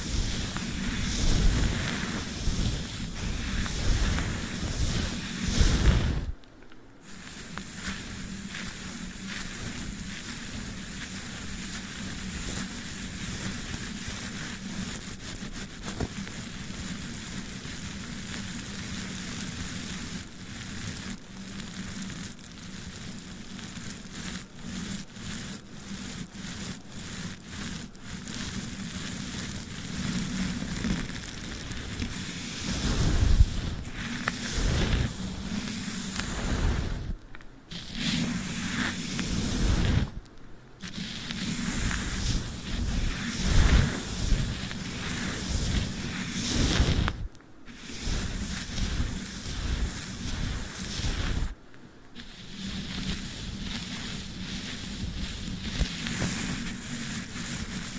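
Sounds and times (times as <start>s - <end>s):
brush rustling: 0.0s - 6.4s, 7.0s - 17.5s, 26.2s - 57.9s
sticky tape crackling: 0.0s - 57.9s.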